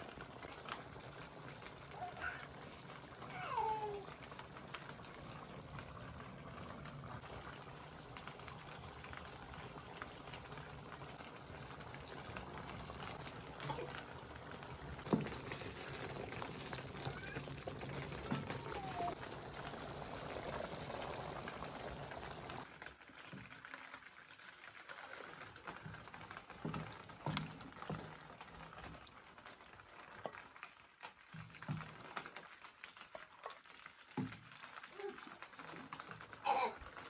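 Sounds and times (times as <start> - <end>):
curry bubbling and spluttering: 0.0 - 37.0.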